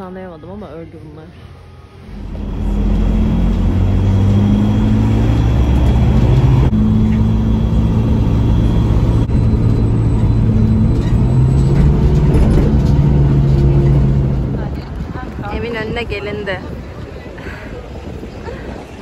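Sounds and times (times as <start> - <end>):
bus engine running: 1.4 - 19.0.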